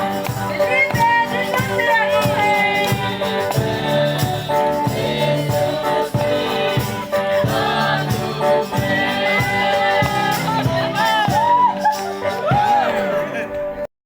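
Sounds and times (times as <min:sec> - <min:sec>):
percussion beat: 0:00.0 - 0:13.3
gospel-like singing: 0:00.0 - 0:13.4.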